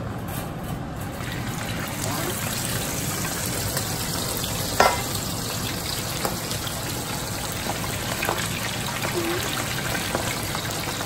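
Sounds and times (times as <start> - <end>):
fish deep-frying in oil: 1.1 - 11.0.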